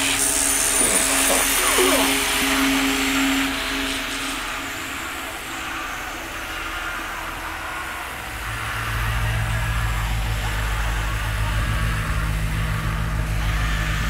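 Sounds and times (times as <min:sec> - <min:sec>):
low pulsing drone: 0:00.0 - 0:14.0.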